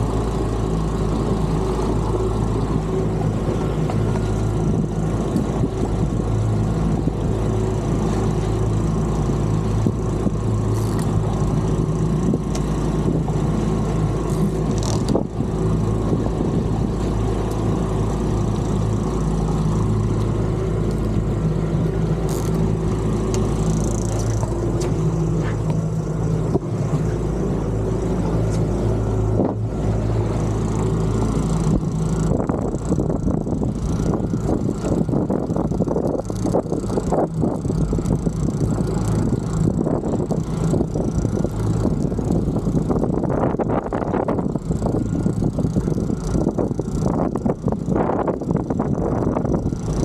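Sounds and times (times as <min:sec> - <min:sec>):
boat engine humming: 0:00.0 - 0:50.0
gusty wind: 0:00.0 - 0:50.0
water noise: 0:00.0 - 0:50.0.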